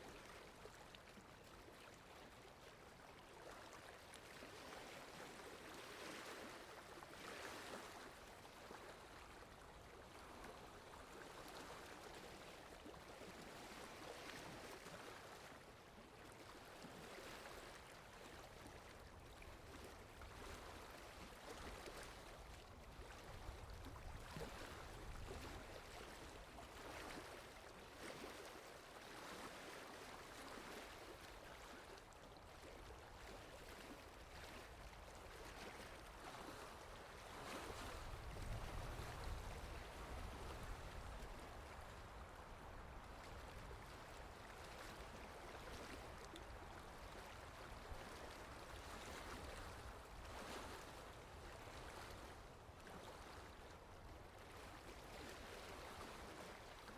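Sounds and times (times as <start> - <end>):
water lapping: 0.0 - 56.9.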